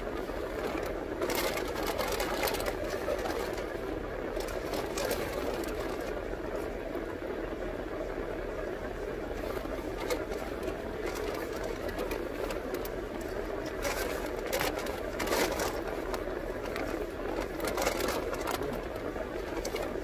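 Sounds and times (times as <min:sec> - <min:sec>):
mechanical whir in car cabin: 0:00.0 - 0:20.0.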